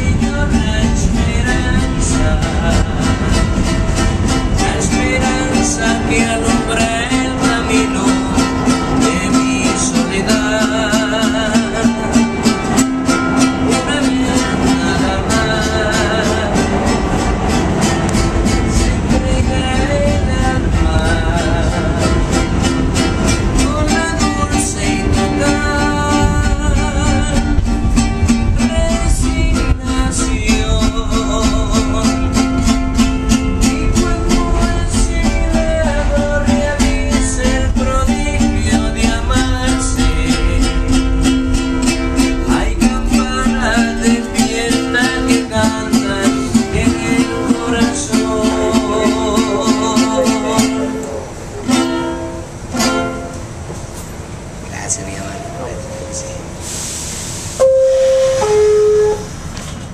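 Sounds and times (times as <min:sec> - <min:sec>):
man singing with vibrato: 0:00.0 - 0:53.3, 0:57.6 - 0:59.5
acoustic guitar strumming: 0:00.0 - 0:59.9
subway train rumble: 0:00.0 - 0:59.9.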